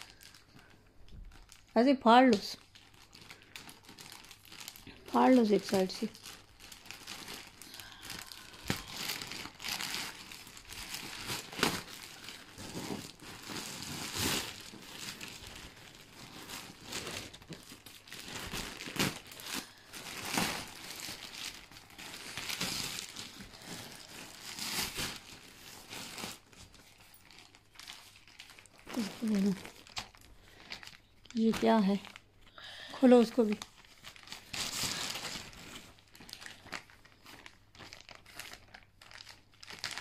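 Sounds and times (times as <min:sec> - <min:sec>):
plastic bag crinkling and tearing: 0:00.0 - 0:32.4, 0:33.0 - 0:40.0.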